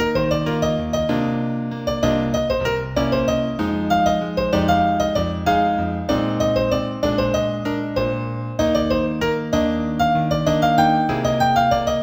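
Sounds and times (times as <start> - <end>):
solo piano instrumental: 0.0 - 12.0.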